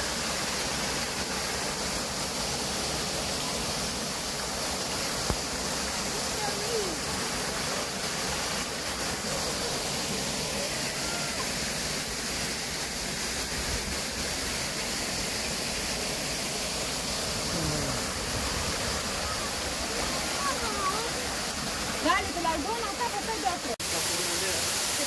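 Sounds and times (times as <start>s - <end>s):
stream cascading over boulders: 0.0s - 25.0s
waterfall rushing: 0.0s - 25.0s.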